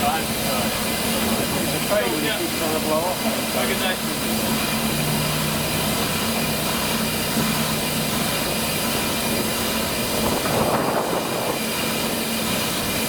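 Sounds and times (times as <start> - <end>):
steam locomotive roar and hiss: 0.0 - 13.0.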